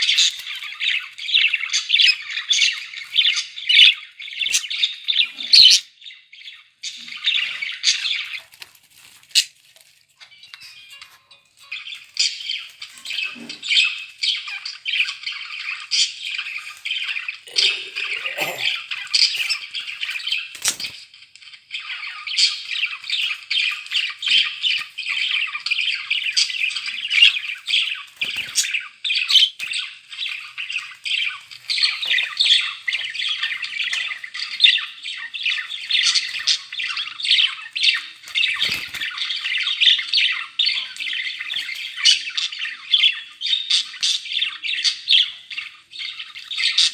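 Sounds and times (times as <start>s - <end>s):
budgerigars chattering and warbling: 0.0s - 8.6s, 10.2s - 46.9s.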